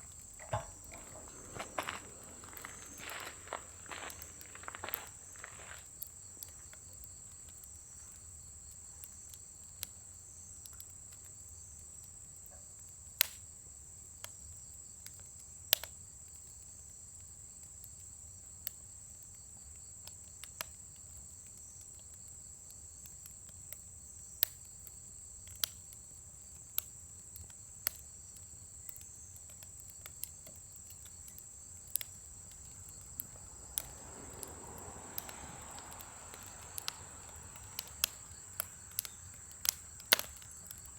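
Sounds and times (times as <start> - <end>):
crickets chirring: 0.0 - 40.9
wood fire crackling and popping: 0.0 - 40.9.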